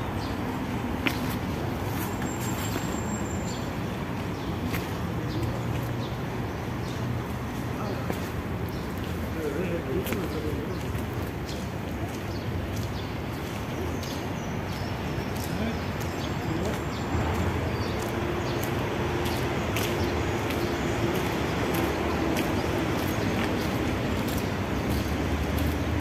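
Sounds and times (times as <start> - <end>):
birds: 0.0 - 26.0
distant traffic hum: 0.0 - 26.0.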